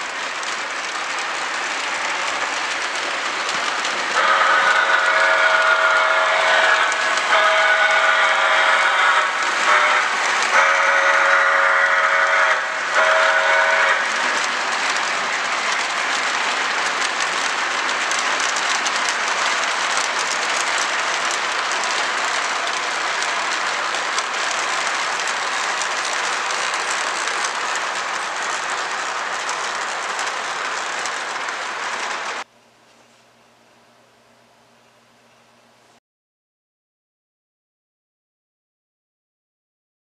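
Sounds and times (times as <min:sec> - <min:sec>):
model train cars rattling on track: 0:00.0 - 0:32.5
wheels clicking over rails: 0:00.0 - 0:32.5.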